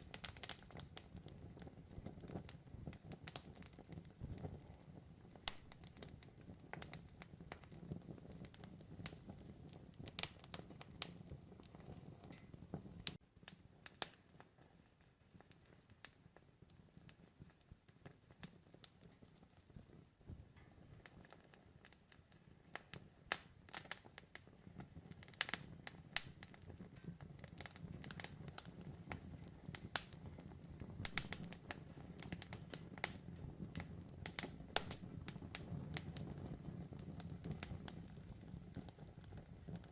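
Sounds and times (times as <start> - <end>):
campfire pops and snaps: 0.0 - 39.9
low rumble of burning fire: 0.0 - 39.9.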